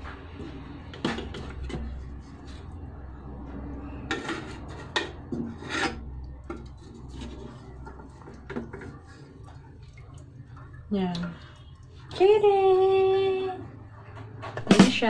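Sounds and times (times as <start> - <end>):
wooden utensils scraping metal pot: 0.0 - 15.0.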